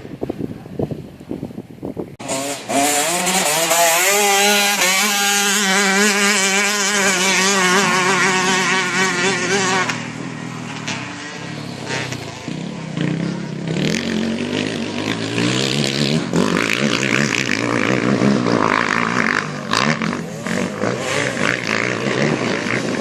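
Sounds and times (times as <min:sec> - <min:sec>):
motocross bike engine revving: 0:02.2 - 0:23.0.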